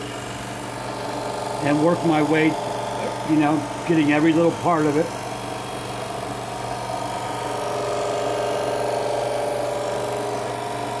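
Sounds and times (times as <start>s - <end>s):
drill press motor hum: 0.0s - 11.0s.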